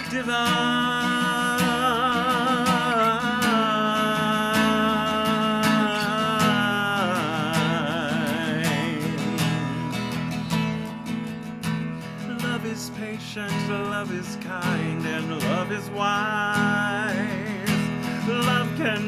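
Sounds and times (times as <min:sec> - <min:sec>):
person singing with vibrato: 0:00.0 - 0:11.1, 0:12.2 - 0:19.0
strummed acoustic guitar: 0:00.0 - 0:19.0.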